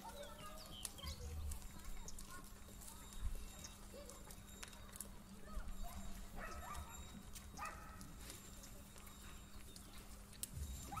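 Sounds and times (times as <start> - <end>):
hooves clopping on concrete: 0.0 - 11.0.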